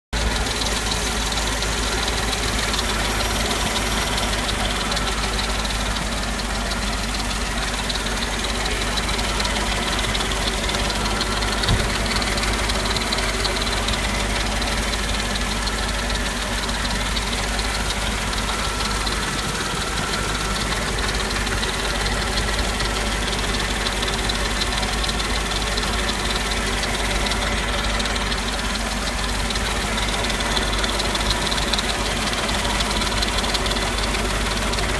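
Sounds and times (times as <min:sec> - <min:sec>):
car engine idling: 0:00.1 - 0:34.9
engine knock: 0:00.1 - 0:34.9
engine ticking: 0:00.1 - 0:34.9.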